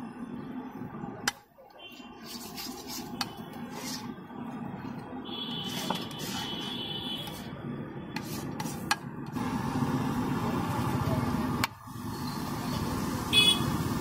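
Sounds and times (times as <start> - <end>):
traffic and engines hum: 0.0 - 14.0.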